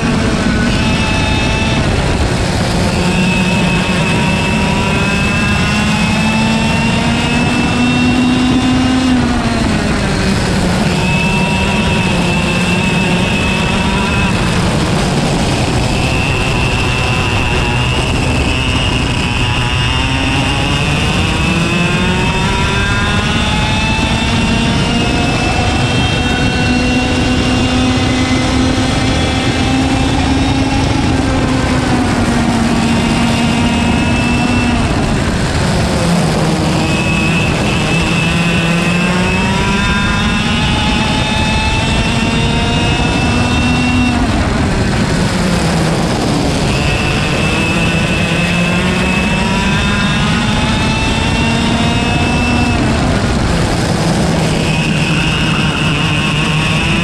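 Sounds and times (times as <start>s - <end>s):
kart engine revving: 0.0s - 57.0s
wind and road noise: 0.0s - 57.0s.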